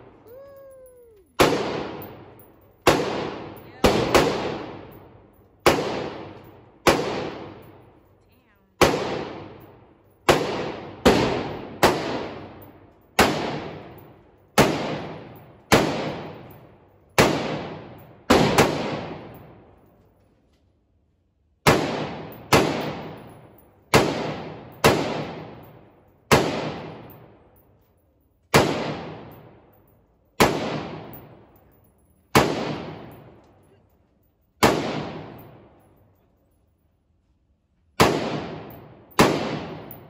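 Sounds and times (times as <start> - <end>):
gunshots echoing indoors: 1.4 - 19.8, 21.5 - 27.6, 28.5 - 33.7, 34.6 - 36.2, 38.0 - 40.0.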